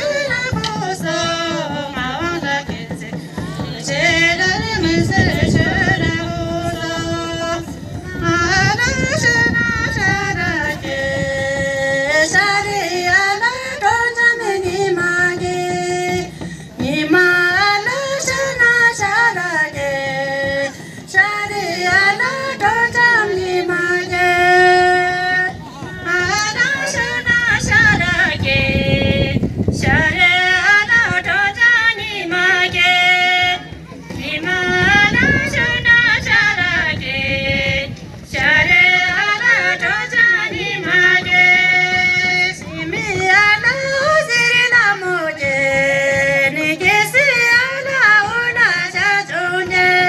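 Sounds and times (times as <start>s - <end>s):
women singing together: 0.0s - 50.0s.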